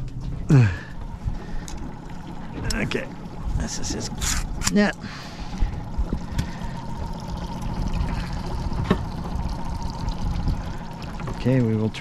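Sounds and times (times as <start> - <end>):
outboard motor hum: 0.0 - 12.0
water sloshing against boat hull: 0.0 - 12.0.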